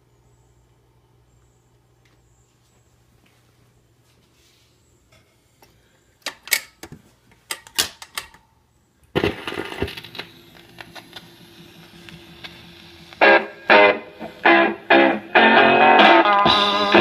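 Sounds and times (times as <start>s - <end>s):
record hiss and hum: 0.0s - 17.0s.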